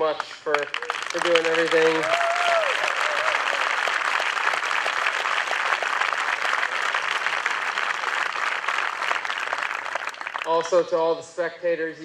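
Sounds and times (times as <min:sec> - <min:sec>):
crowd clapping: 0:00.0 - 0:10.9.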